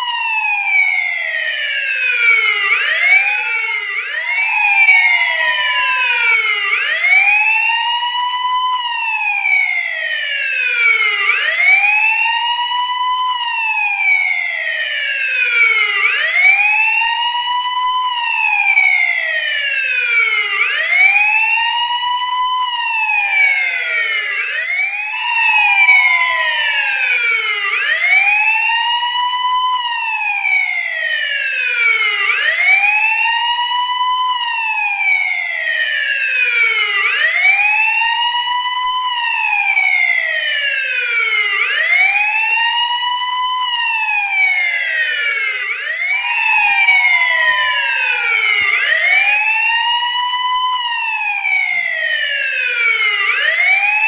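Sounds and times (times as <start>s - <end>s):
police siren wailing: 0.0s - 54.0s.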